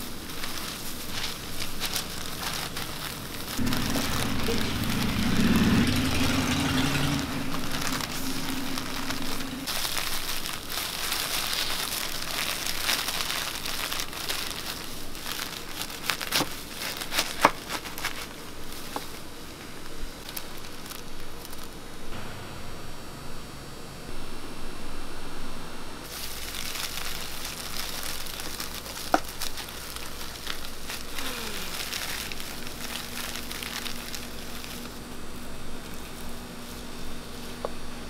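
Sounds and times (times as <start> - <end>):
plastic wrap crinkling: 0.0 - 21.8, 26.1 - 37.7
low steady hum: 0.0 - 38.0.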